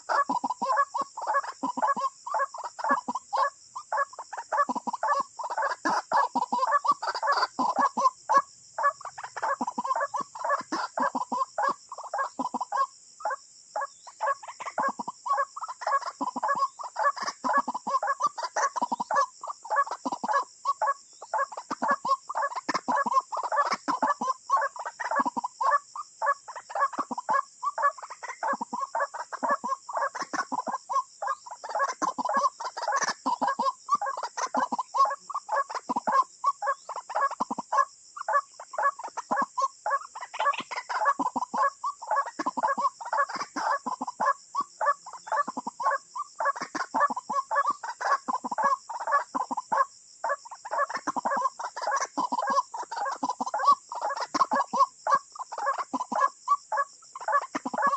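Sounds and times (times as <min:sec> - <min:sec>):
birds harsh croaking calls: 0:00.0 - 0:57.9.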